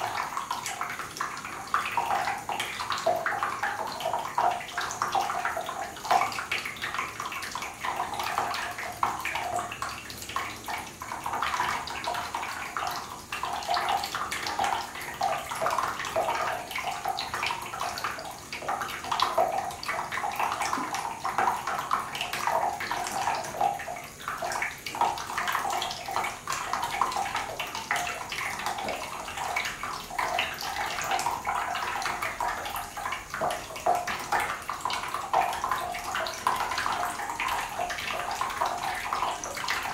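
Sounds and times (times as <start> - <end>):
water splashing into bathtub: 0.0 - 39.9.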